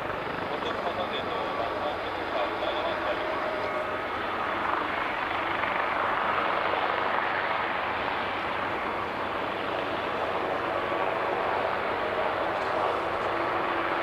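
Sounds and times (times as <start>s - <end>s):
jet engines at takeoff thrust: 0.0s - 14.0s.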